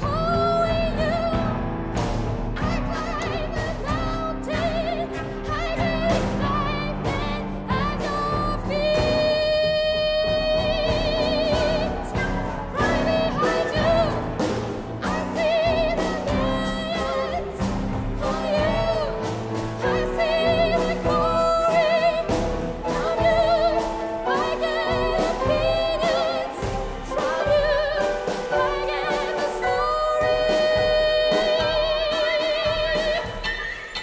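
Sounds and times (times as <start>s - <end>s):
soprano singing with vibrato: 0.0s - 1.8s, 2.4s - 34.0s.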